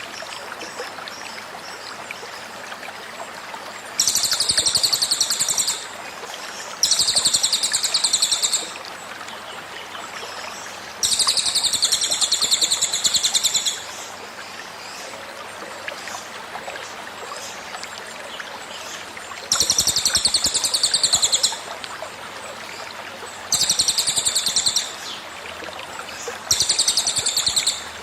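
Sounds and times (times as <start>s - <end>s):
stream trickling: 0.0s - 28.0s.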